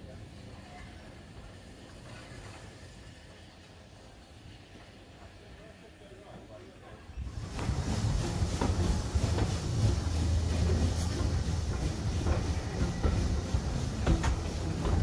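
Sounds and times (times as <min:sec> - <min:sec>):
railway carriage rumbling: 0:00.0 - 0:15.0.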